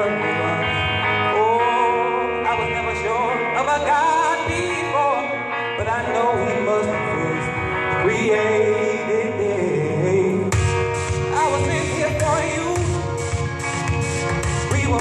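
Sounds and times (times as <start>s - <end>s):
man singing into microphone: 0.0s - 13.4s, 14.0s - 15.0s
instrumental accompaniment: 0.0s - 15.0s.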